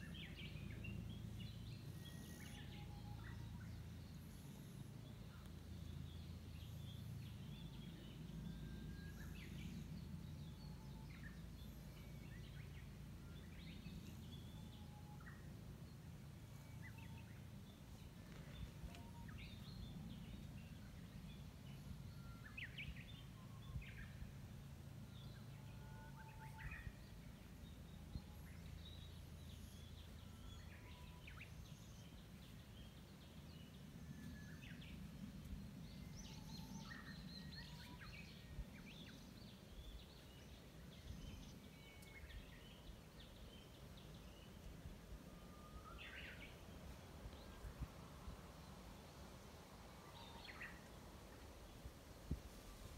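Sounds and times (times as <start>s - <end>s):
low outdoor rumble: 0.0s - 52.9s.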